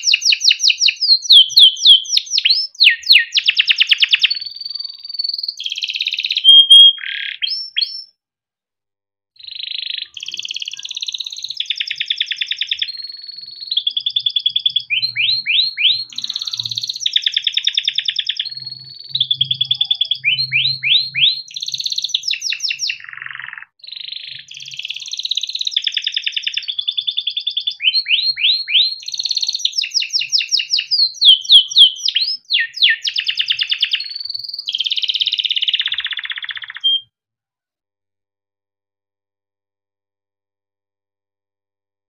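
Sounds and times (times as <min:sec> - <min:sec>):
canary singing: 0:00.0 - 0:08.1, 0:09.4 - 0:37.1.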